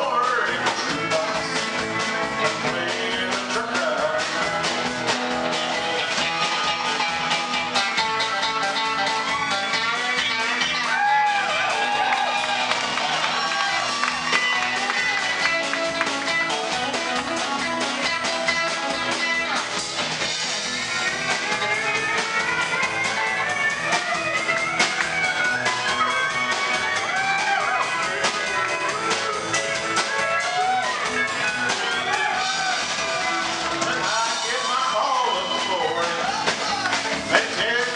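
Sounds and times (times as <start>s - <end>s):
drum kit beat: 0.0s - 37.9s
electric guitar with bending notes: 0.0s - 37.9s.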